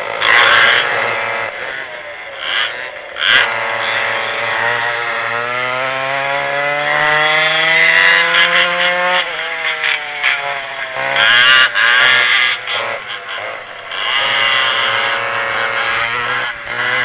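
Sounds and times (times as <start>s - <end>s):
kart engines revving: 0.0s - 17.0s.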